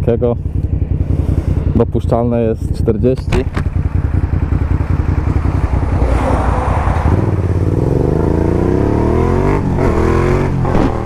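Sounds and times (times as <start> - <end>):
motorcycle accelerating: 0.0 - 11.0.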